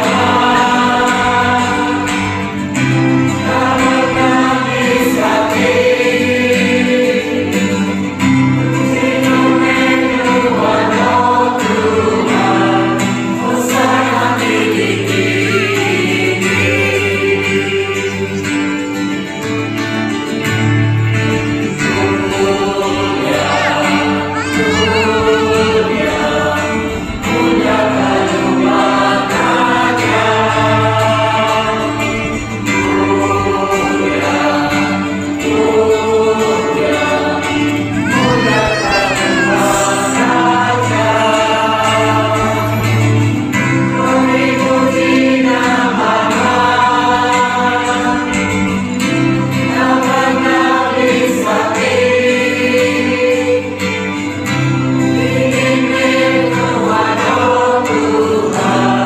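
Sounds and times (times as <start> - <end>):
choir and congregation singing hymn: 0.0 - 59.0
instrumental accompaniment: 0.1 - 59.0.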